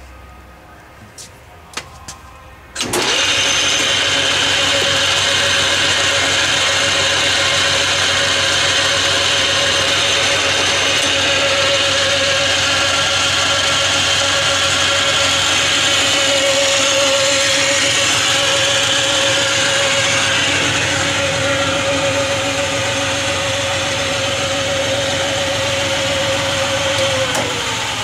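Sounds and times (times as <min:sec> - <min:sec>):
lathe hum and whine: 0:00.0 - 0:28.0.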